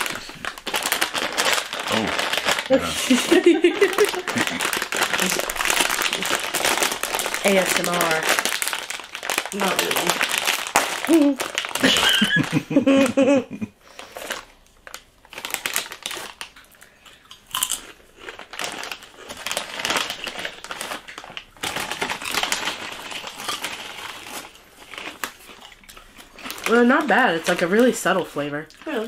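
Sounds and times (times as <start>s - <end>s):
chips crackling in bag: 0.0s - 13.2s, 13.9s - 16.8s, 17.5s - 29.0s
chip bag crinkling: 0.0s - 29.0s.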